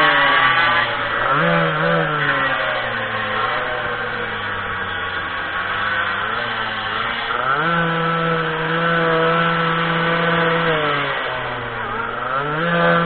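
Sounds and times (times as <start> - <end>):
small two-stroke engine revving: 0.0 - 13.0.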